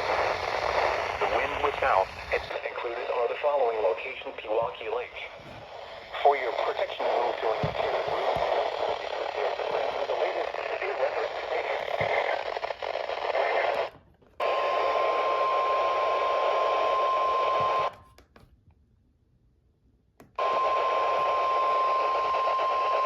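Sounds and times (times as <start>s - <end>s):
radio static hiss: 0.0s - 17.9s, 20.4s - 23.0s.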